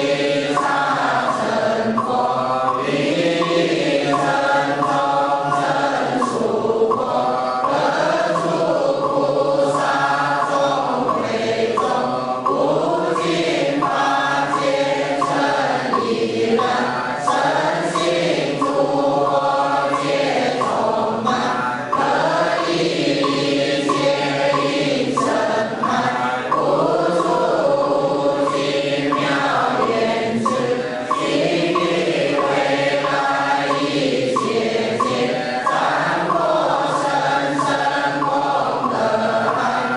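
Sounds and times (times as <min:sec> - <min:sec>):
congregation chanting in unison: 0:00.0 - 0:39.9.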